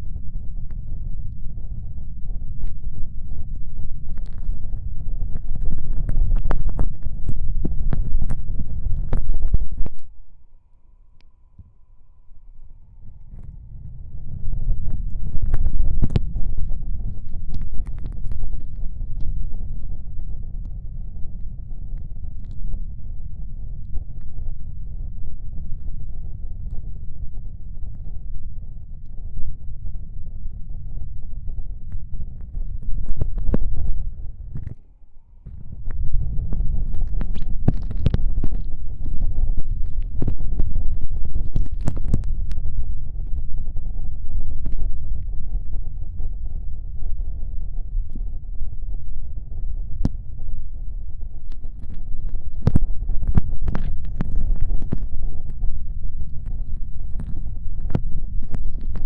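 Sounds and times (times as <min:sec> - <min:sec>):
muffled low rumble: 0:00.0 - 0:59.0.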